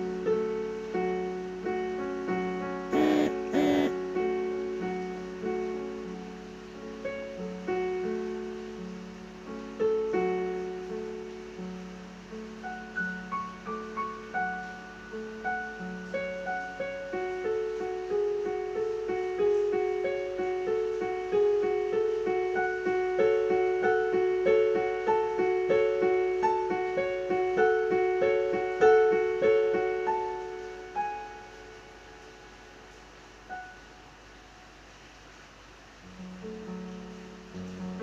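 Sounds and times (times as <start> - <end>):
slow piano melody: 0.0 - 38.0.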